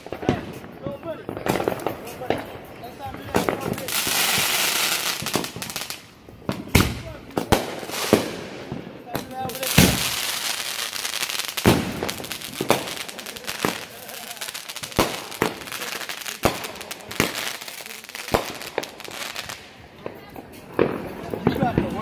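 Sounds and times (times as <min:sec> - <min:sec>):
fireworks bangs: 0:00.0 - 0:22.0
fireworks crackling and hissing: 0:00.0 - 0:22.0.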